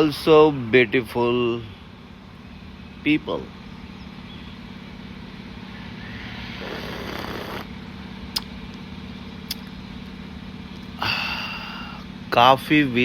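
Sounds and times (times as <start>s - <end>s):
passing traffic: 0.0s - 12.4s
vehicle engine idling: 0.0s - 13.0s.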